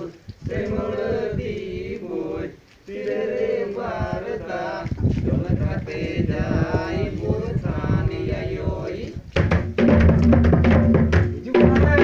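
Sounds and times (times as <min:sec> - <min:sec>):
men singing together: 0:00.0 - 0:09.2, 0:11.4 - 0:12.0.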